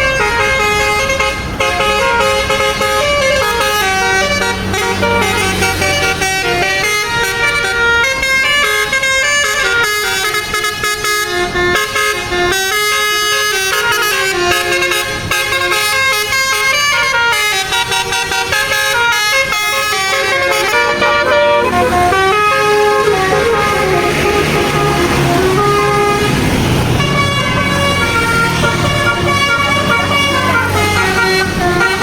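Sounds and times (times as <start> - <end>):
musical bus horn tune: 0.0 - 32.0.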